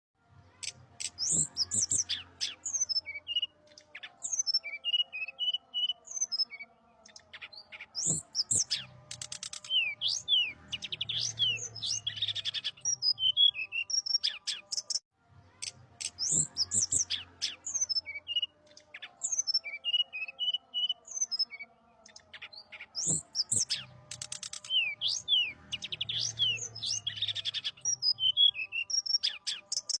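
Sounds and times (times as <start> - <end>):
songbird singing: 0.6 - 15.0, 15.6 - 30.0.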